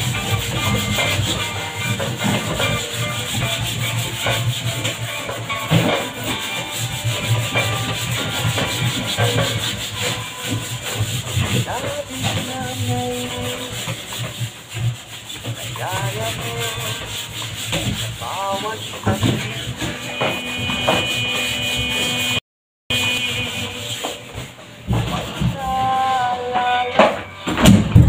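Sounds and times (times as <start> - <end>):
cloth scrubbing wooden door: 0.0 - 26.5.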